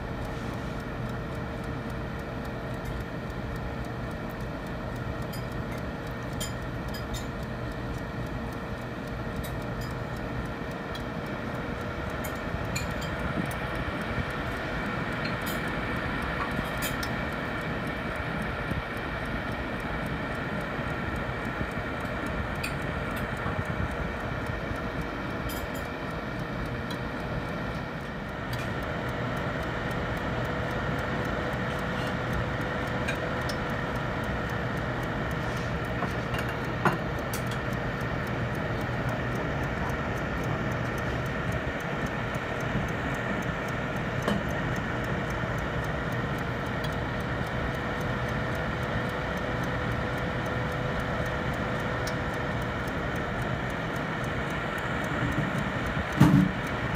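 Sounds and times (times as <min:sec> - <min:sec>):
oven fan hum with whine: 0:00.0 - 0:56.9
sausages ticking and popping: 0:00.8 - 0:56.9.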